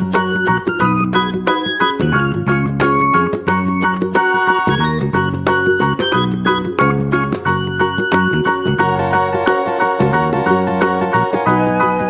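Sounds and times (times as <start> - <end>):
keyboard background music: 0.0 - 12.0.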